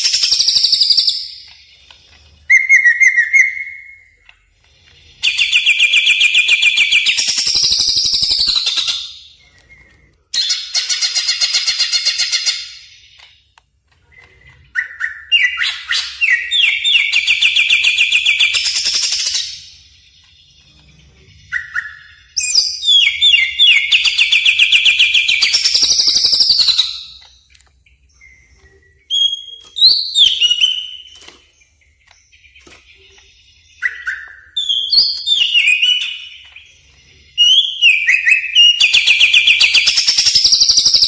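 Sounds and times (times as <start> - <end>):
bird singing rapid repeated notes: 0.0 - 41.0.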